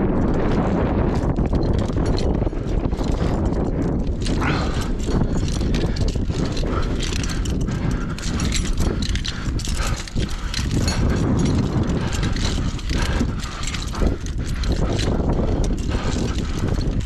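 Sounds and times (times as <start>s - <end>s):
metal harness clanks and clicks: 0.0s - 17.0s
wind buffeting microphone: 0.0s - 17.0s.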